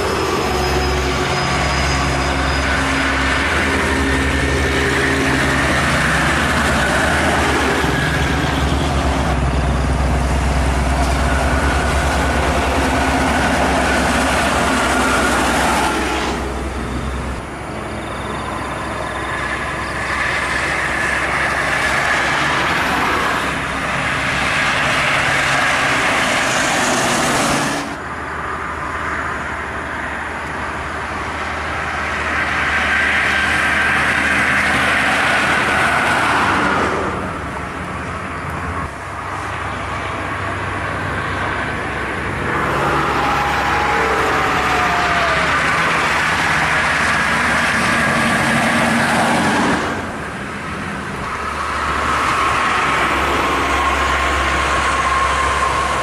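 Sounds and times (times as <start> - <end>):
highway traffic passing: 0.0 - 56.0.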